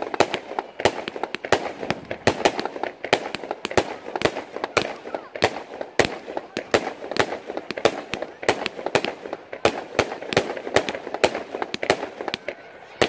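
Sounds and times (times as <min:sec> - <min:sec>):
firework shots banging: 0:00.0 - 0:13.0.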